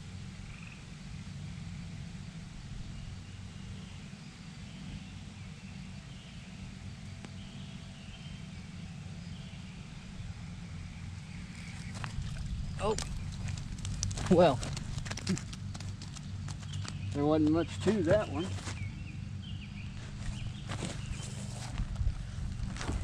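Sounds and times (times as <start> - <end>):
low microphone rumble: 0.0 - 23.0.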